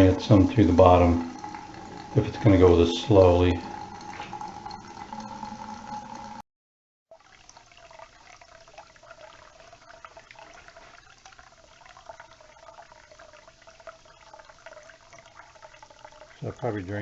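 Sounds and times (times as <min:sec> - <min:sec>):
water trickling into standing water: 0:00.0 - 0:06.4, 0:07.1 - 0:17.0.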